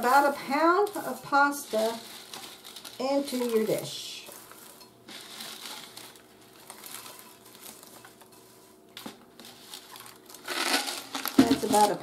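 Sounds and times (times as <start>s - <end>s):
spaghetti rustling against plastic: 0.0s - 12.0s.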